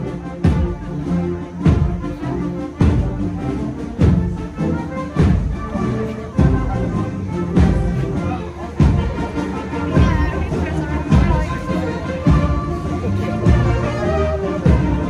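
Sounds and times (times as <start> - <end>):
band playing dance tune: 0.0 - 15.0
heavy drum beat: 0.0 - 15.0.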